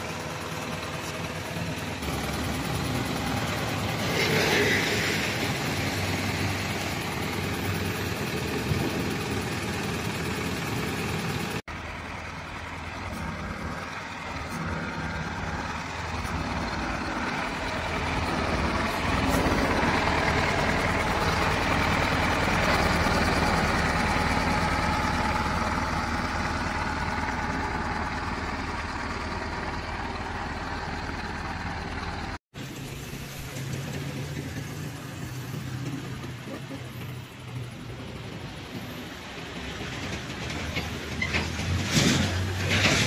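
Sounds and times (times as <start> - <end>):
truck diesel engine running: 0.0 - 43.0.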